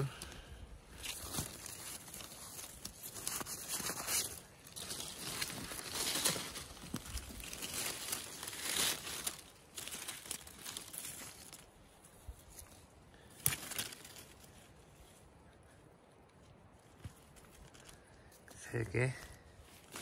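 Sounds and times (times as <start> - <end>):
hand rustling through dry leaves: 0.9 - 20.0.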